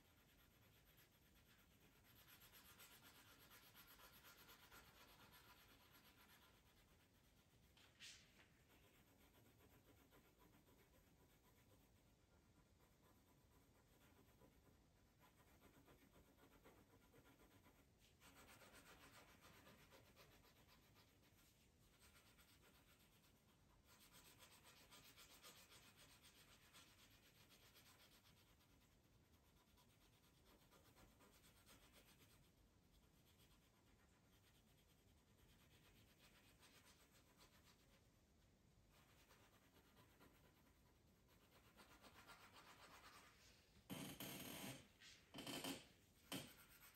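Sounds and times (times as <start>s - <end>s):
pencil scratching on paper: 0.0s - 38.1s, 38.9s - 46.9s.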